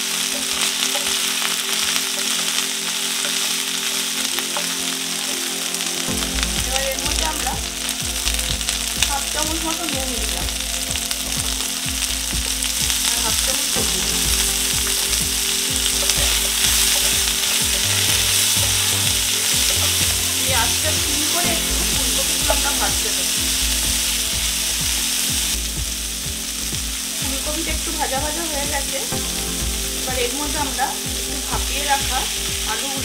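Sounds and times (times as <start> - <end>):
cauliflower sizzling in hot oil: 0.0 - 33.0.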